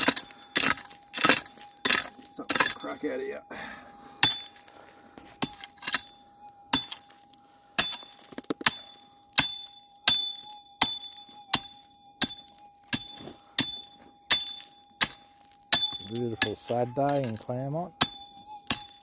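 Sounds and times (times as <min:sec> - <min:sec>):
pick striking stony ground: 0:00.0 - 0:03.1, 0:04.2 - 0:19.0.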